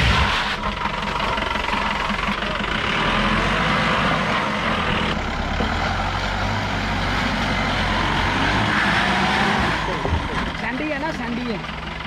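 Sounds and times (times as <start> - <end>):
jeep engine running at low revs: 0.0 - 12.0.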